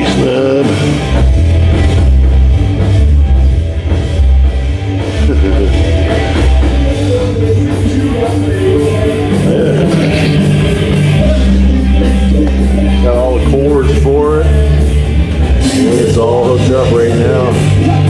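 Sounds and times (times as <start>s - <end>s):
loud rock music with heavy bass: 0.0s - 18.0s.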